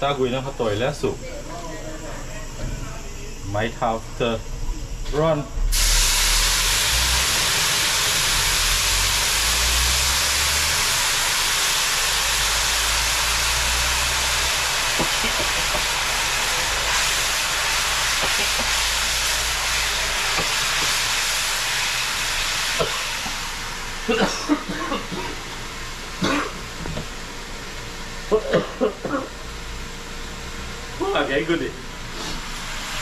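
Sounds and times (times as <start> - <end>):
stew boiling and hissing: 0.0 - 33.0.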